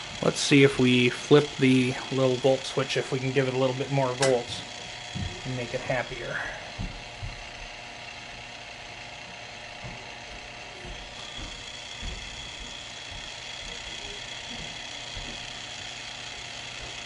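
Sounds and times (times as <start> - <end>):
mechanical whir and hum: 0.0 - 17.0.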